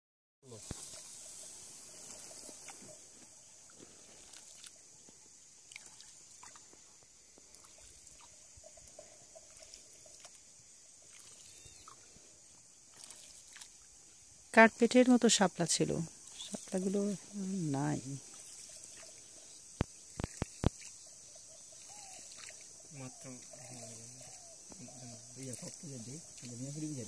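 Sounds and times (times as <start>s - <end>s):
small splashes: 0.4s - 14.2s, 16.2s - 27.0s
steady high hiss: 0.4s - 27.0s
water dripping: 0.5s - 27.0s.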